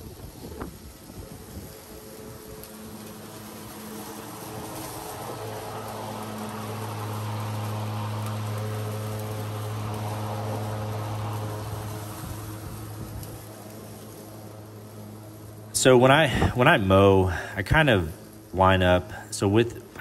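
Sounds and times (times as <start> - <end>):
grass being cut: 0.0 - 20.0
lawn mower electric hum: 0.0 - 20.0.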